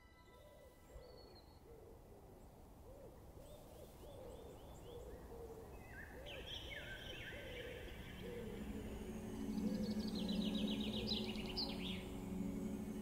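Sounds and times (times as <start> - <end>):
bird chirps: 0.0 - 1.9, 3.4 - 12.2
low hoot-like bird calls: 0.2 - 12.1.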